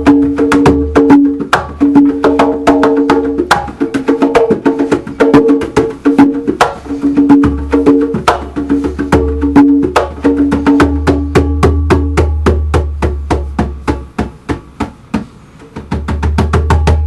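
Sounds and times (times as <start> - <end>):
hand percussion playing: 0.0 - 17.0.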